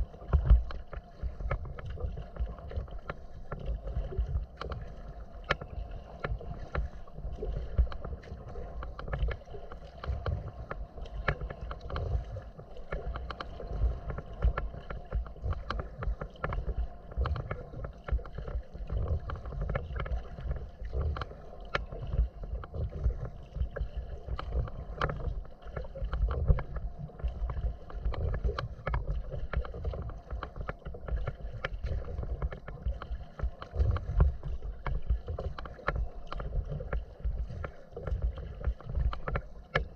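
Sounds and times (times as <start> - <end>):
waves slapping against hull: 0.0 - 39.9.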